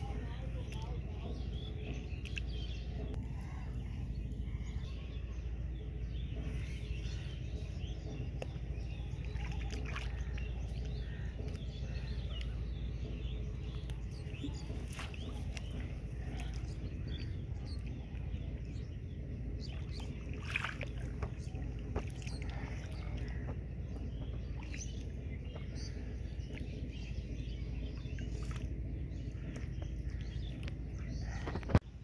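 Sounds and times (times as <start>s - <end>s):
steady low rumble: 0.0s - 32.0s
hands sloshing in muddy water: 5.4s - 31.8s.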